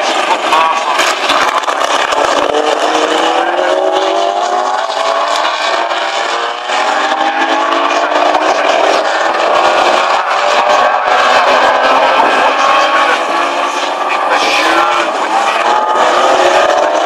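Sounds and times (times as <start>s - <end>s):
racing car engines accelerating: 0.0s - 17.0s.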